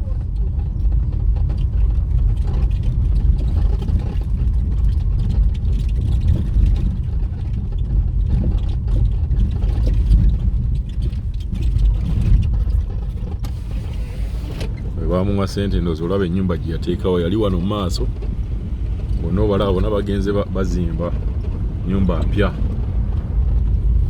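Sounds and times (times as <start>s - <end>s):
vehicle engine and road rumble: 0.0s - 24.0s
knocks and rattles: 0.2s - 24.0s.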